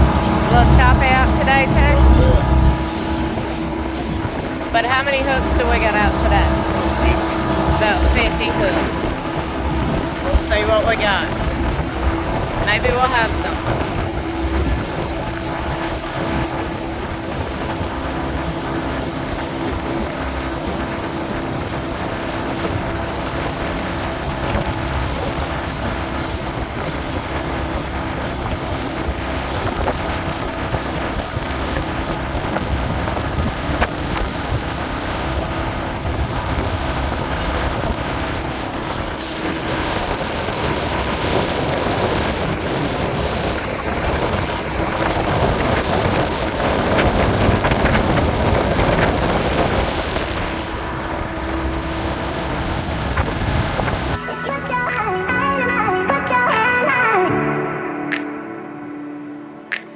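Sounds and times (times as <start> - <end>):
wind buffeting microphone: 0.0 - 54.9
boat motor humming: 0.0 - 57.4
choppy water: 0.0 - 59.9.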